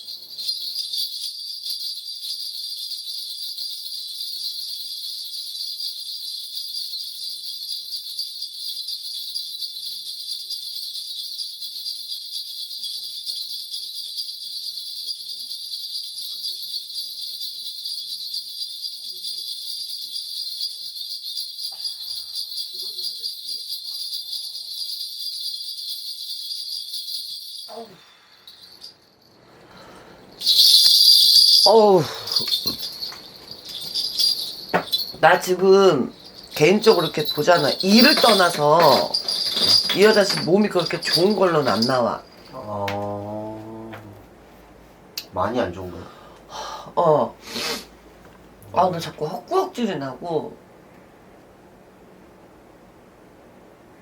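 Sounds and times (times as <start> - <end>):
spirit bells jingling: 0.0 - 44.1, 45.4 - 47.9, 48.6 - 50.6.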